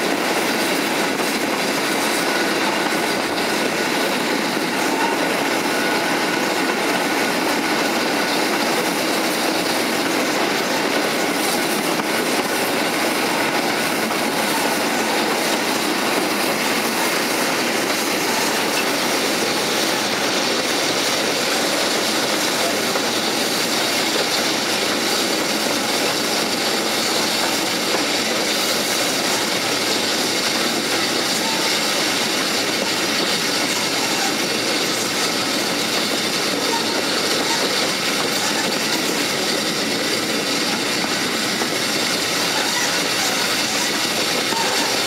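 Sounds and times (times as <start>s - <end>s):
train wheels rolling on rails: 0.0s - 45.0s.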